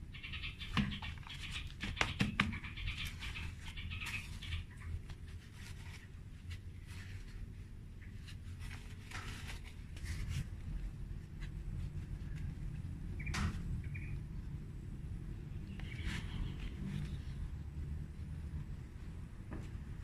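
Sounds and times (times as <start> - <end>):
steady low rumble: 2.6 - 20.0.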